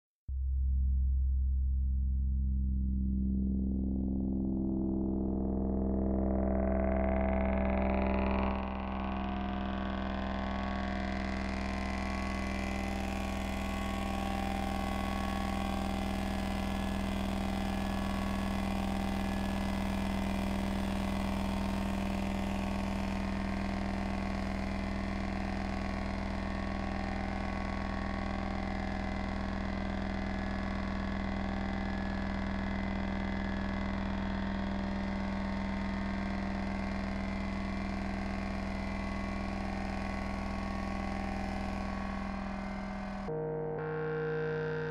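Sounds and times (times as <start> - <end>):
ambient synthesizer drone music: 2.9 - 44.9.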